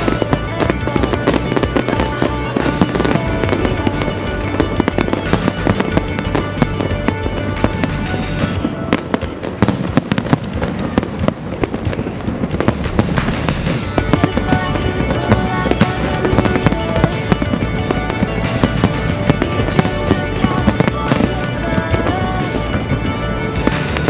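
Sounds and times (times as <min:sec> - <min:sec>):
fireworks bangs and crackles: 0:00.0 - 0:24.0
music: 0:00.0 - 0:24.0.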